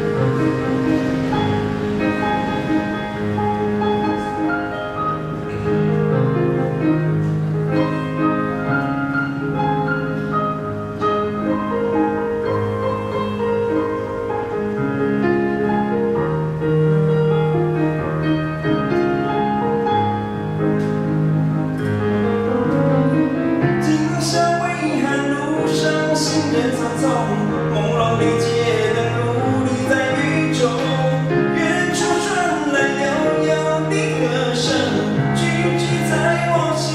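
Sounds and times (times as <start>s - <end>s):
piano playing chords and melody: 0.0s - 36.9s.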